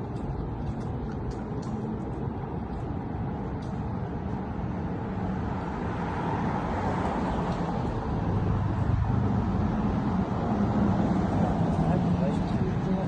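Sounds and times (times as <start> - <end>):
car engine and tyre hum: 0.0 - 13.0.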